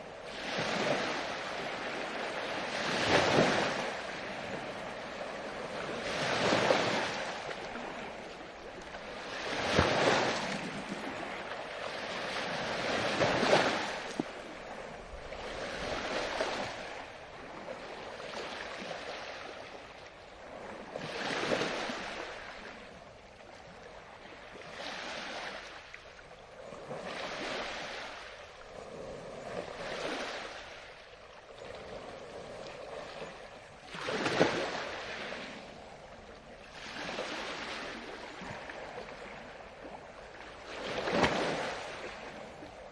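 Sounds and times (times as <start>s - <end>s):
ocean waves breaking: 0.0s - 42.9s.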